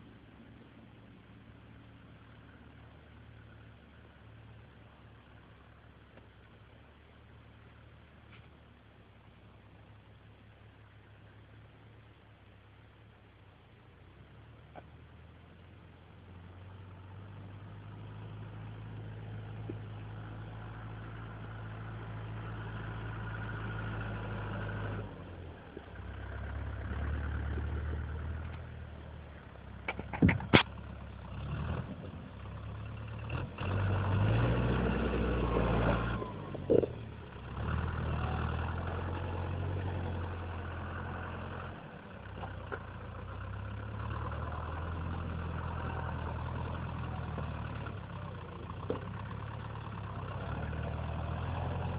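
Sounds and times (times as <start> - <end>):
tractor diesel engine: 0.0 - 51.9.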